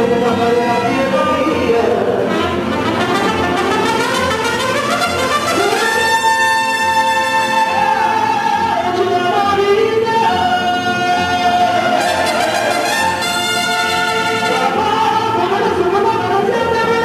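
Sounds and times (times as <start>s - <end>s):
violins: 0.0s - 9.0s, 10.8s - 15.5s
mariachi band playing: 0.0s - 17.0s.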